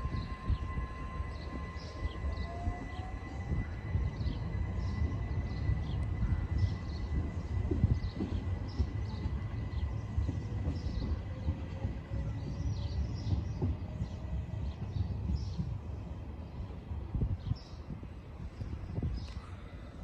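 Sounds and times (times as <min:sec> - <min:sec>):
birds chirping: 0:00.0 - 0:19.8
electric train low rumble: 0:00.0 - 0:20.0.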